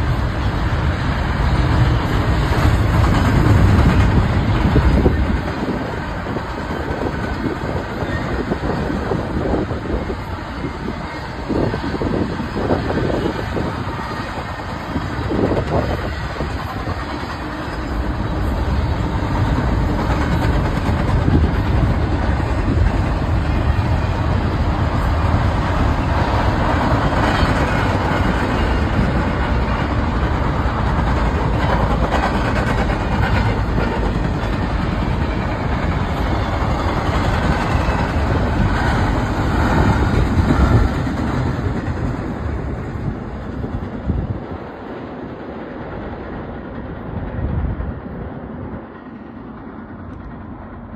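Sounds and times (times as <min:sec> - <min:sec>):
train wheel clacks: 0:00.0 - 0:50.9
train wheels rumbling on rails: 0:00.0 - 0:50.9.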